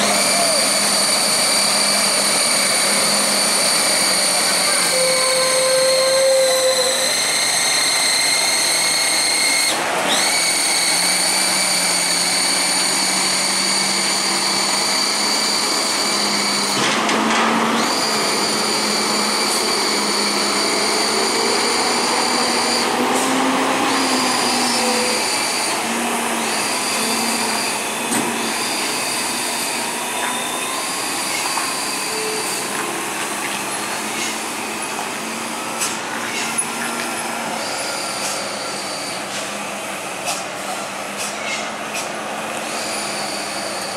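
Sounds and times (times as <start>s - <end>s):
high-pitched whine: 0.0s - 41.8s
heavy truck diesel engines: 0.0s - 43.9s.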